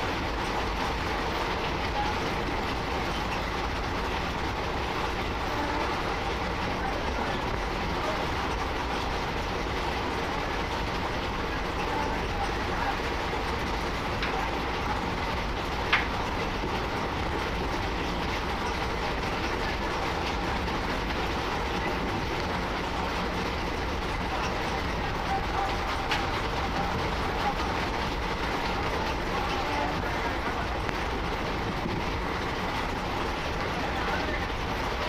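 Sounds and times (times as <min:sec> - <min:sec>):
train wheels on rails: 0:00.0 - 0:35.0.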